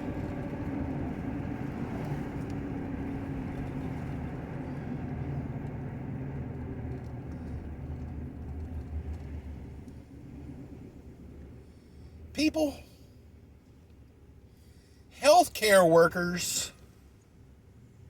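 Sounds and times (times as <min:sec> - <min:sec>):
car engine hum: 0:00.0 - 0:14.5
road noise: 0:00.0 - 0:18.0.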